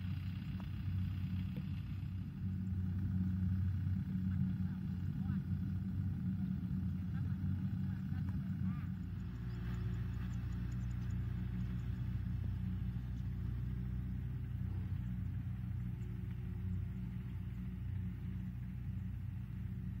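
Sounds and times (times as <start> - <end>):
tractor diesel engine humming: 0.0 - 20.0.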